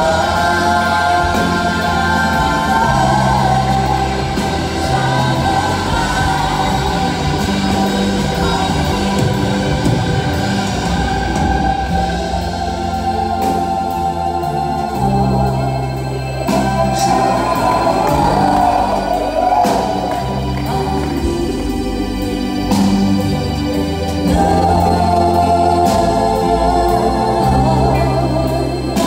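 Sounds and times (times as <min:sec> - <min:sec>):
backing singers: 0:00.0 - 0:29.0
live rock band playing: 0:00.0 - 0:29.0
organ-like chords: 0:00.0 - 0:29.0.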